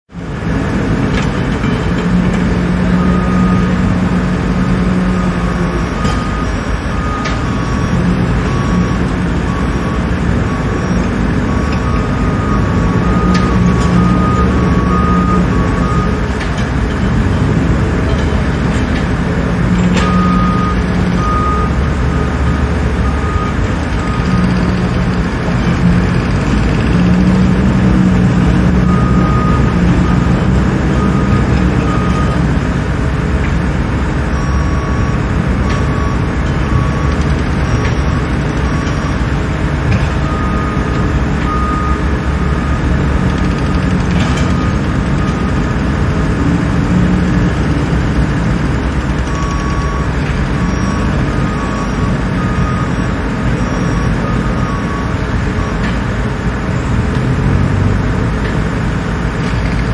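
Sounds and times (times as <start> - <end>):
heavy truck engines rumbling: 0.1 - 59.9
reversing alarm beeping: 0.2 - 59.9.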